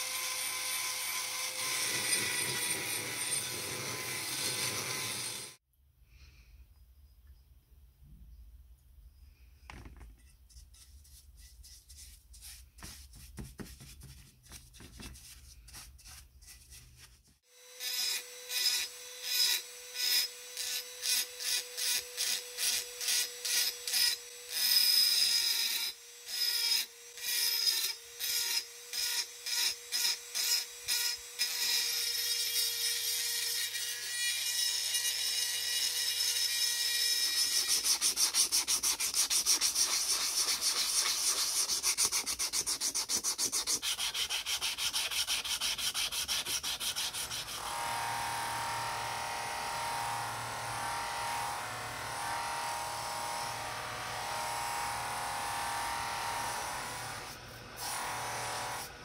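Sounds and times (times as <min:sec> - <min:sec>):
rotary tool grinding metal: 0:00.0 - 0:05.6, 0:15.8 - 0:58.9.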